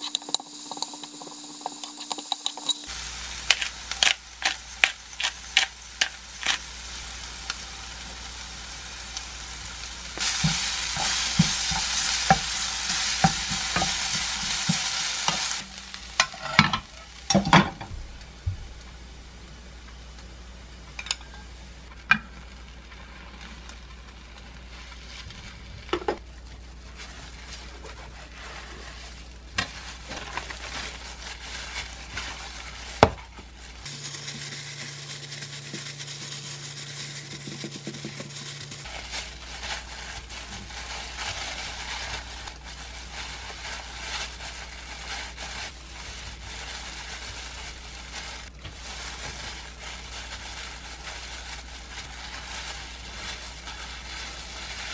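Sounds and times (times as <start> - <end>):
egg sizzling in a pan: 0.0 - 17.8, 21.0 - 54.9.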